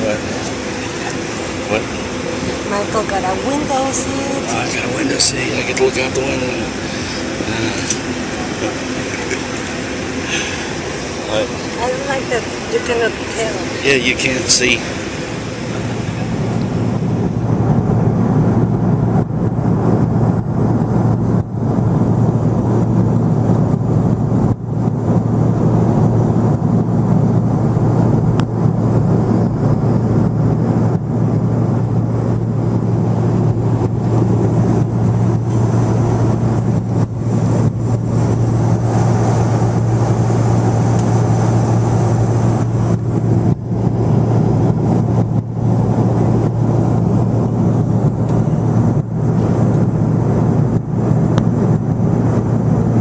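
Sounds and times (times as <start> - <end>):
jet engines and rushing air in cabin: 0.0 - 53.0.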